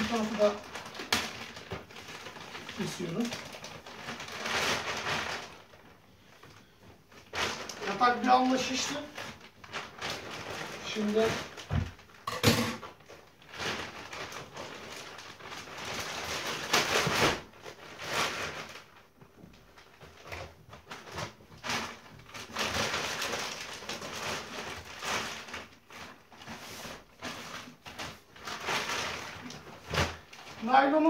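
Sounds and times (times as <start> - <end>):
plastic film crinkling: 0.0 - 31.0.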